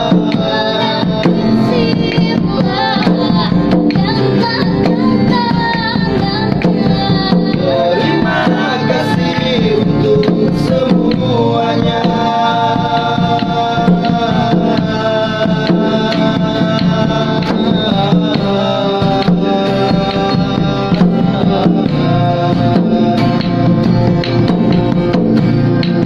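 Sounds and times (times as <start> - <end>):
acoustic guitars: 0.0 - 26.0
hand drum rhythm: 0.0 - 26.0.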